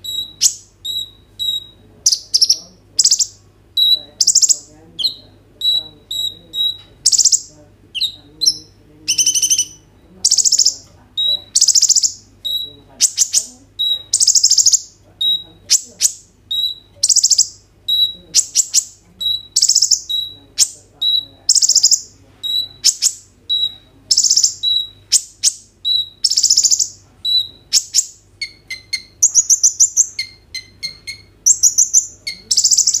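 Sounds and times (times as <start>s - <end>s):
bird chip notes: 0.0s - 33.0s.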